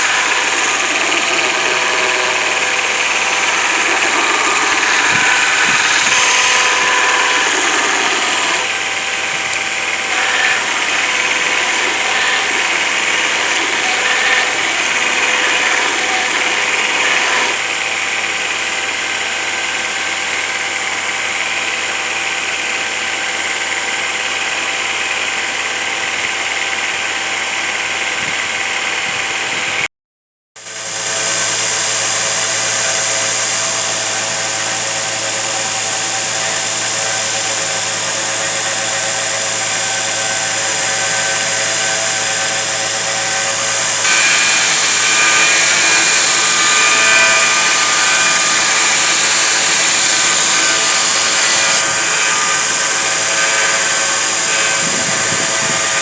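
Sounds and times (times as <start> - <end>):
electric power tool running: 0.0 - 29.9, 30.6 - 56.0.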